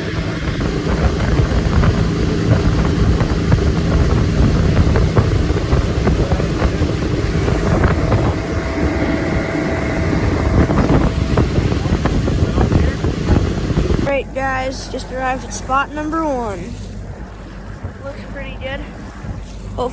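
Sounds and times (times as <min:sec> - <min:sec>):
outboard motor running: 0:00.0 - 0:19.9
wind buffeting microphone: 0:00.0 - 0:19.9.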